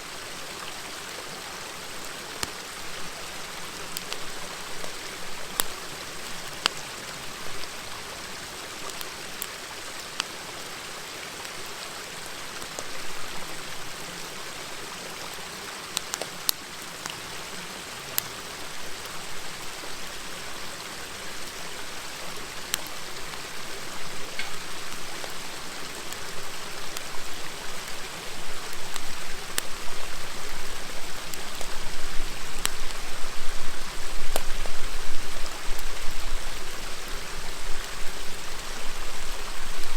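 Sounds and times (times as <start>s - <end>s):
river murmuring: 0.0s - 39.9s
wood fire crackling: 0.4s - 10.8s, 11.4s - 39.9s.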